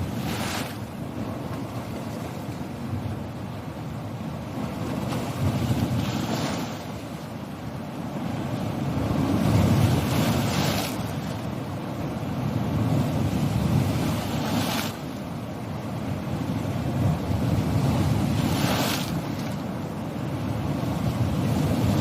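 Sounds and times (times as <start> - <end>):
surf rumble: 0.0 - 22.0.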